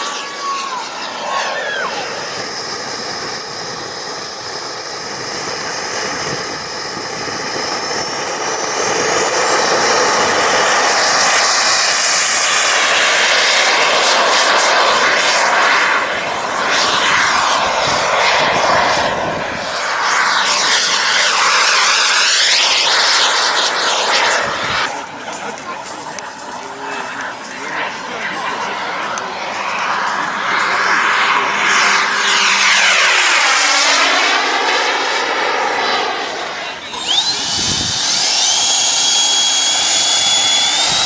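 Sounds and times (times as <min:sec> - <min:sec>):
model jet turbine whining: 0:00.0 - 0:41.0.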